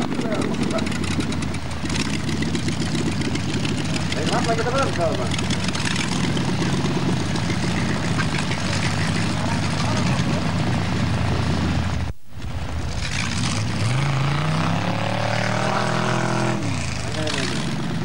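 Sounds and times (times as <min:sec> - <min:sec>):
buggy engine revving high: 0:00.0 - 0:18.0.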